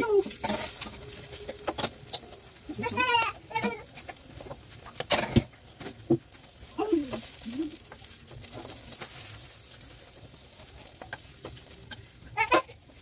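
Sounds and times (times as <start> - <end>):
flatbread sizzling in oil: 0.0 - 13.0.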